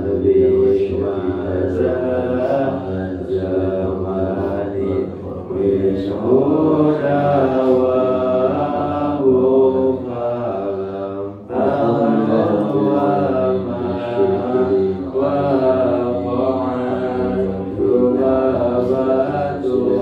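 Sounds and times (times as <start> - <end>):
person chanting melodically: 0.0 - 20.0.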